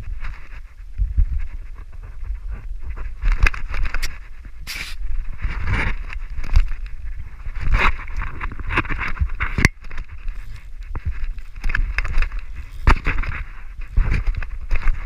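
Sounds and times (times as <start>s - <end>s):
wind buffeting camera: 0.0s - 15.0s.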